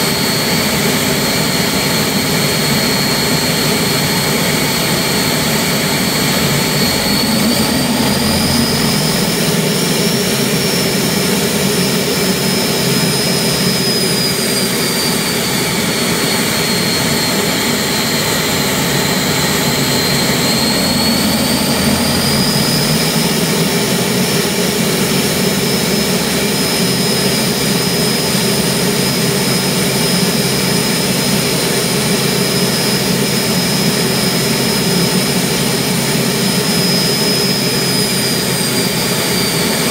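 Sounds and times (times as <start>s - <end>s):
gas turbine engine running: 0.0s - 39.9s.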